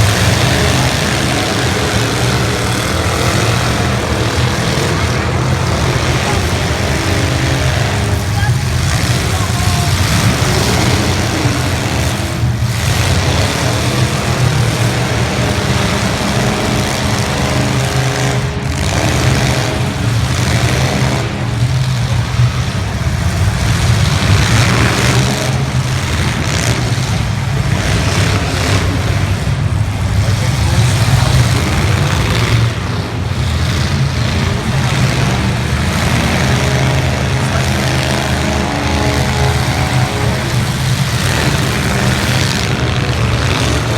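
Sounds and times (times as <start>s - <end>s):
car engines revving loudly: 0.0s - 43.9s.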